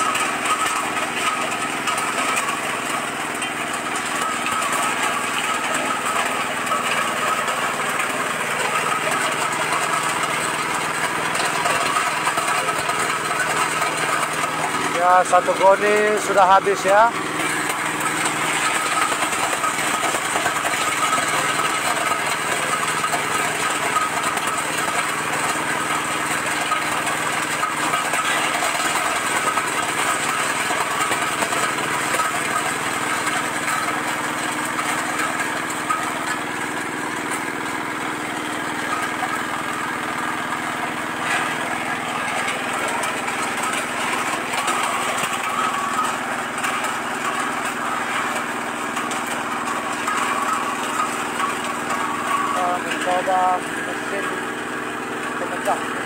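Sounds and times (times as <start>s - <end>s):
diesel engine running: 0.0s - 56.0s
nut cracking machine running: 0.0s - 56.0s
nuts rattling: 0.1s - 56.0s.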